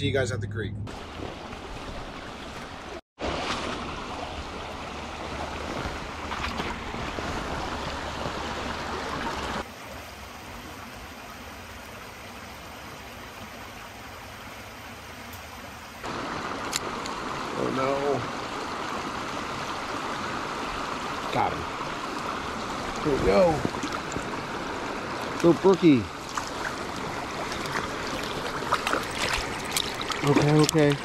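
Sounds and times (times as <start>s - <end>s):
creek water rushing over stones: 0.9s - 31.0s.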